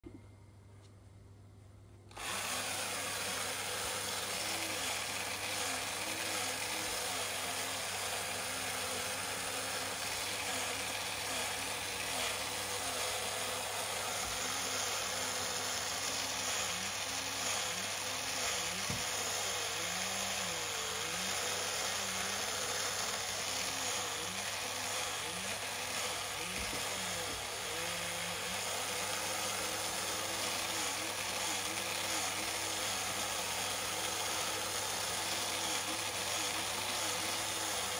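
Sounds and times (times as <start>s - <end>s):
toy electric motor whirring: 2.1s - 37.9s.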